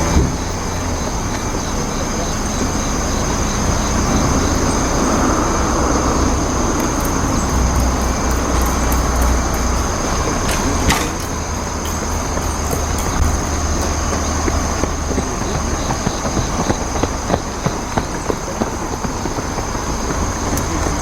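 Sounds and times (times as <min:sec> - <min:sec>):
constant high-pitched tone: 0:00.0 - 0:21.0
outdoor rumble and hiss: 0:00.0 - 0:21.0.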